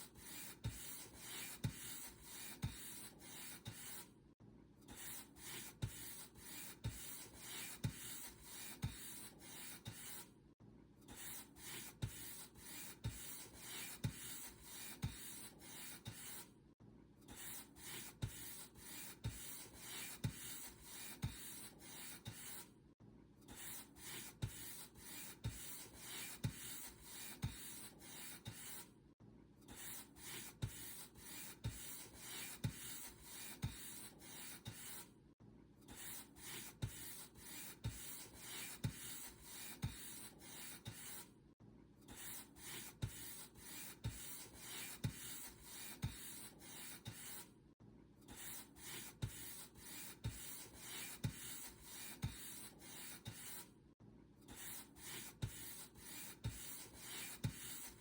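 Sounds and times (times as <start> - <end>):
paint brush rubbing a surface: 0.0 - 4.1, 5.0 - 10.3, 11.1 - 16.5, 17.3 - 22.7, 23.5 - 28.9, 29.7 - 35.1, 35.9 - 41.3, 42.1 - 47.5, 48.3 - 53.7, 54.5 - 58.0.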